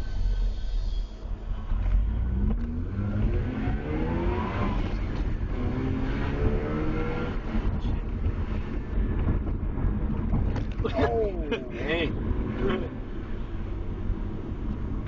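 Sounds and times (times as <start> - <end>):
rotary engine accelerating hard: 1.6 - 10.6, 11.8 - 15.0.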